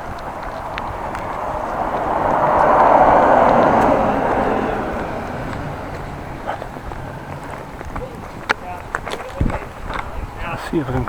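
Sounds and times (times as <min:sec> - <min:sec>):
vehicle driving past: 0:00.0 - 0:08.9.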